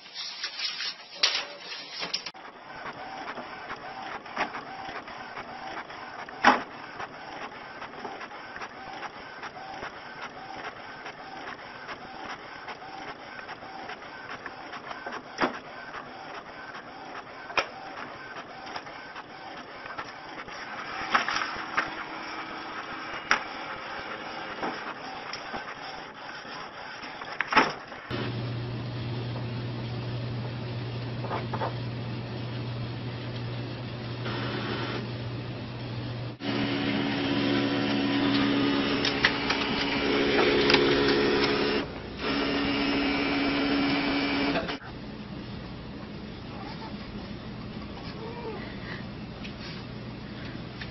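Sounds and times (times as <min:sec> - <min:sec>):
printer feed clicking and whining: 0:01.2 - 0:29.6, 0:30.2 - 0:44.8.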